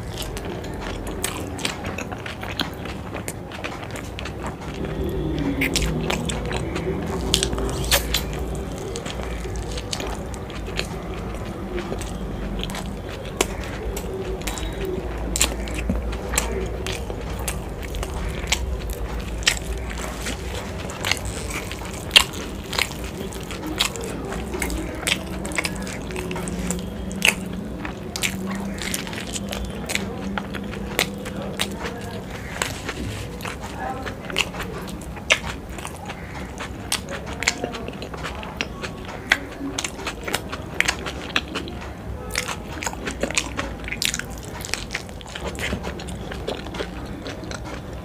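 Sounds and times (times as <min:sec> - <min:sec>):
biting into a dumpling: 0:00.0 - 0:48.0
person chewing and mouth smacking: 0:00.0 - 0:48.0.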